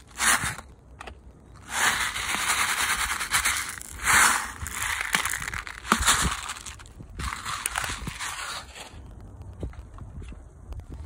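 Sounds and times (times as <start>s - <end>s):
plastic pellets rattling into palm: 0.0s - 9.0s.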